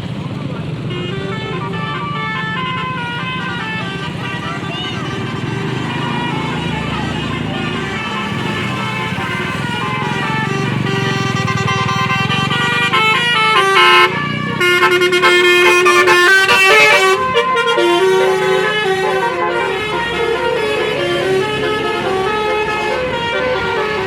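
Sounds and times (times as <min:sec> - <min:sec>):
bus engine running: 0:00.0 - 0:24.0
bus musical air horn tune: 0:00.8 - 0:24.0.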